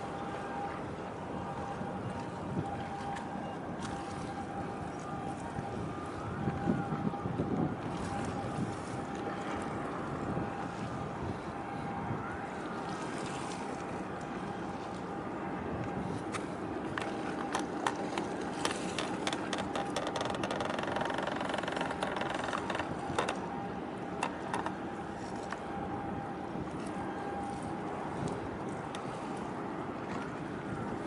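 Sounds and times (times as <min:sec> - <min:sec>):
boat engine running: 0:00.0 - 0:31.0
wind on microphone: 0:01.5 - 0:13.6, 0:15.5 - 0:28.9.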